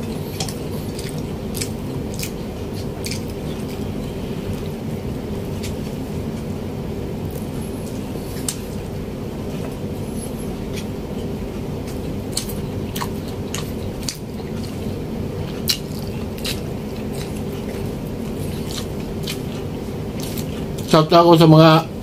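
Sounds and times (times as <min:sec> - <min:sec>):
man chewing and lip-smacking: 0:00.0 - 0:06.6, 0:07.2 - 0:21.0
steady low hum: 0:00.0 - 0:22.0.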